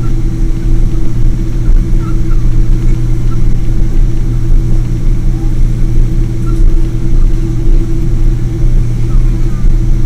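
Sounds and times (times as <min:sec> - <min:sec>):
jet engines droning: 0:00.0 - 0:10.0.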